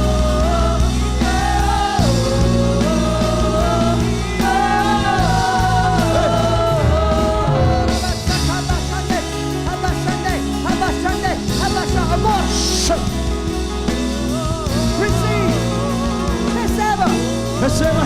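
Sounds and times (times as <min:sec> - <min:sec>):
sustained bass accompaniment: 0:00.0 - 0:18.0
worship singing: 0:00.0 - 0:18.0.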